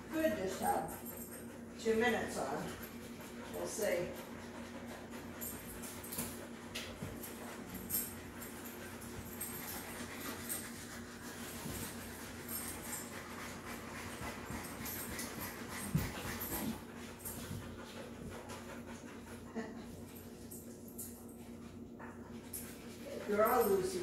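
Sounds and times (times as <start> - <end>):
dogs breathing and whining: 0.0 - 24.0
steady low hum: 0.0 - 24.0.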